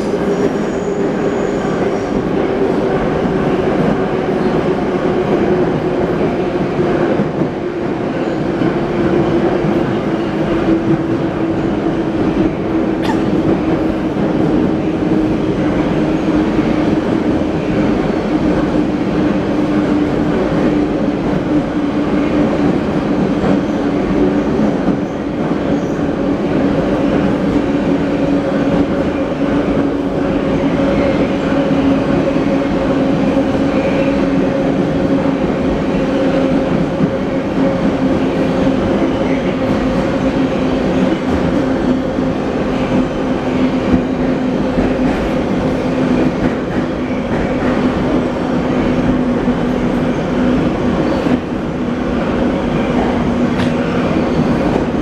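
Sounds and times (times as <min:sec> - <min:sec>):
train running on rails: 0:00.0 - 0:55.0.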